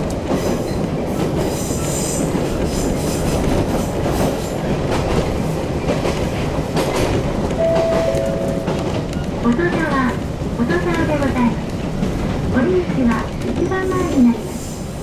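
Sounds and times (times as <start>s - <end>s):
rail joint clicks: 0.0s - 14.2s
train wheels rumbling on rail: 0.0s - 15.0s.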